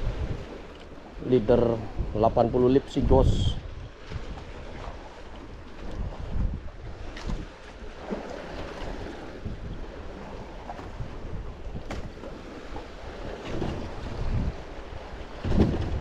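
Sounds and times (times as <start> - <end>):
waves slapping boat hull: 0.0 - 16.0
wind buffeting microphone: 0.0 - 16.0.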